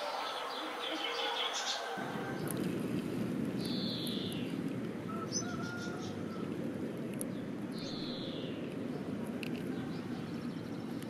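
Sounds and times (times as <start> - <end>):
high falling bird calls: 0.0 - 2.8, 3.5 - 6.6, 7.3 - 11.0
low outdoor background noise: 0.0 - 11.0.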